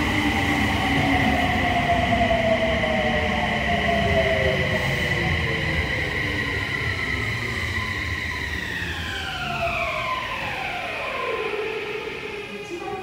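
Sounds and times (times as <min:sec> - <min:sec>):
train inverter whine: 0:00.0 - 0:13.0.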